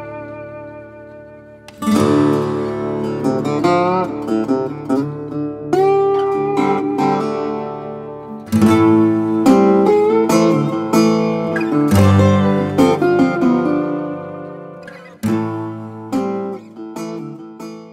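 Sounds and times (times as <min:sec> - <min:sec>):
acoustic guitar plucked notes: 0:00.0 - 0:17.9.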